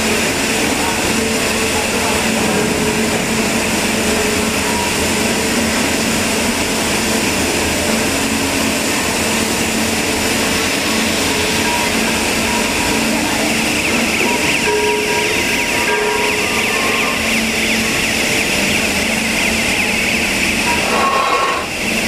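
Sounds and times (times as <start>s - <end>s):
loud machine hiss and rumble: 0.0s - 22.0s.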